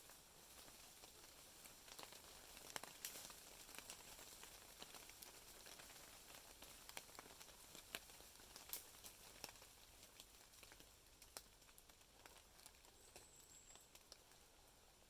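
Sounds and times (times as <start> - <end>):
small ticks and crackles: 0.0 - 15.0.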